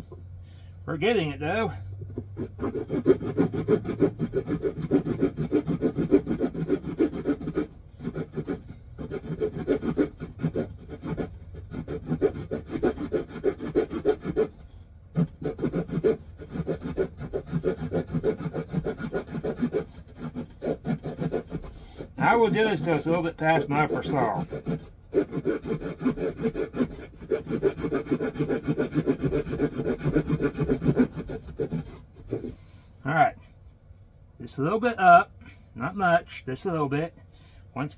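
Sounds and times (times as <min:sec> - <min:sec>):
saw cutting wooden stick: 0:00.9 - 0:33.3.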